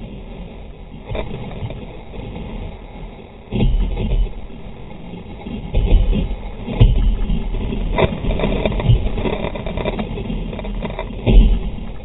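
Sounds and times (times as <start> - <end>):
water rushing over kayak: 0.0 - 12.0.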